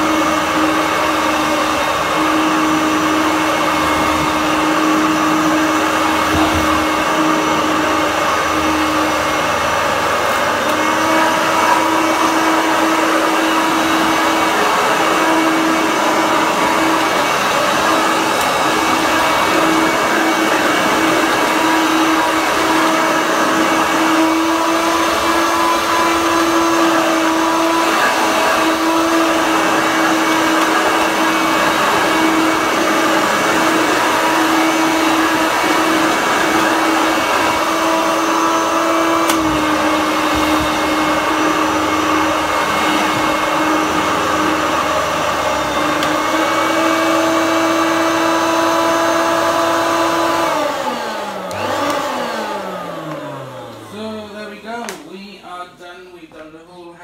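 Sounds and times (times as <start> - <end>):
vacuum cleaner motor whining: 0.0 - 56.8.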